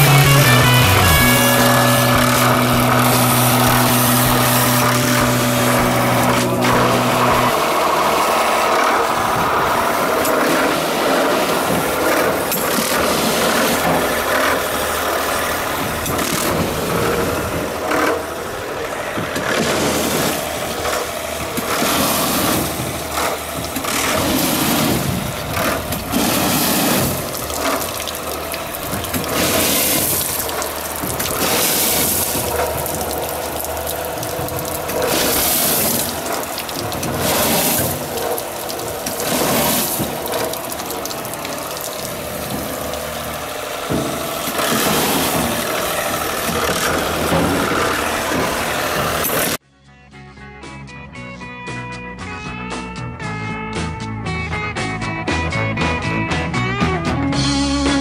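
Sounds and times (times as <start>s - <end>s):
water pump running: 0.0s - 49.6s
water spray bursts: 0.0s - 49.6s.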